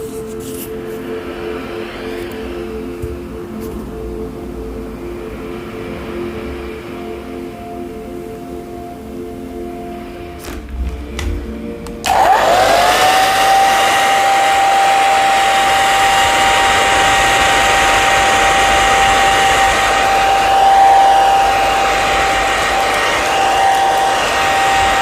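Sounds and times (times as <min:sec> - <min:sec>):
hair dryer whine and airflow: 0:00.0 - 0:08.0, 0:11.3 - 0:25.0.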